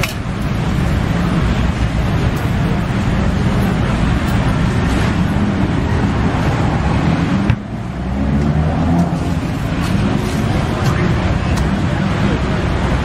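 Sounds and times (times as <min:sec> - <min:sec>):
road traffic engines: 0:00.0 - 0:13.0
street market din: 0:00.0 - 0:13.0.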